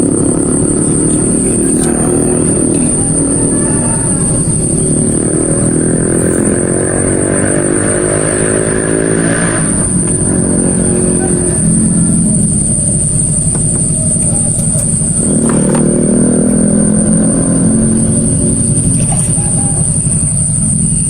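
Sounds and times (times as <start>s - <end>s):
constant high-pitched tone: 0.0s - 21.0s
small engine running: 0.0s - 21.0s.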